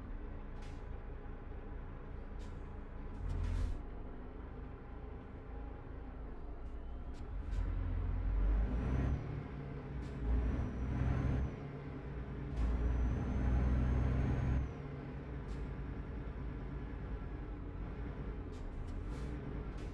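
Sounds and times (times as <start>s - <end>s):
diesel truck engine surging: 0.0s - 19.9s.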